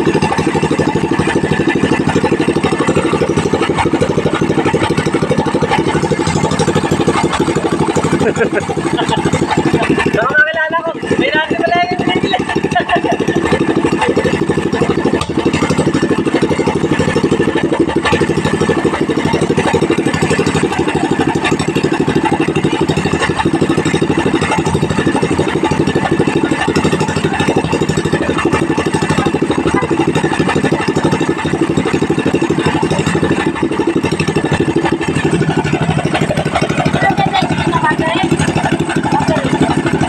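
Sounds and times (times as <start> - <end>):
gasoline engine running: 0.0 - 40.0.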